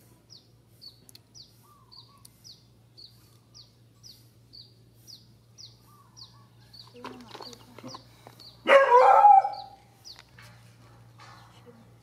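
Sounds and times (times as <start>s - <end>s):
small bird chirping: 0.2s - 10.5s.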